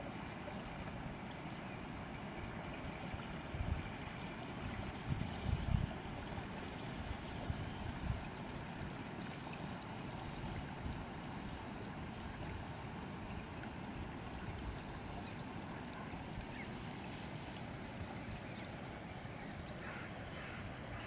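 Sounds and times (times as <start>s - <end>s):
river water flowing over stones: 0.0s - 21.0s.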